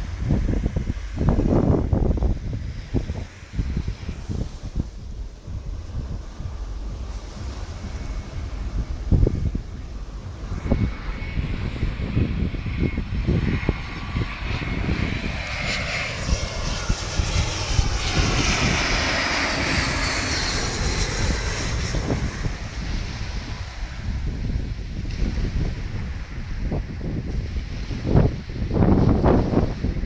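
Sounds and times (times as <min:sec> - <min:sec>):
jet airliner engines: 0:00.0 - 0:30.0
wind buffeting microphone: 0:00.0 - 0:30.0.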